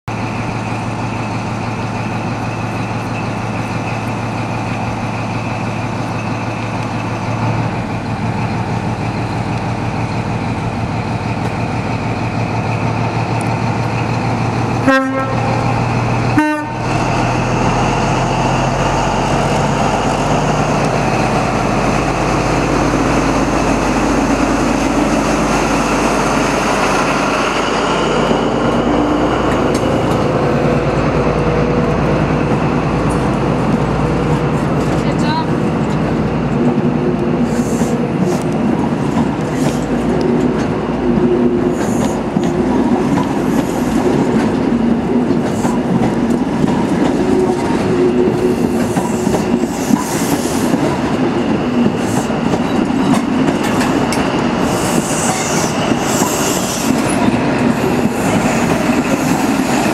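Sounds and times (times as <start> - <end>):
diesel train engine: 0.0 - 59.9
train coaches rolling past: 0.1 - 59.9.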